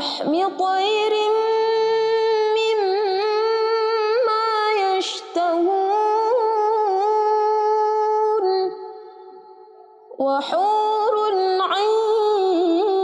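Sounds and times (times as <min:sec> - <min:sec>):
woman reciting melodically: 0:00.0 - 0:09.1, 0:10.1 - 0:13.0.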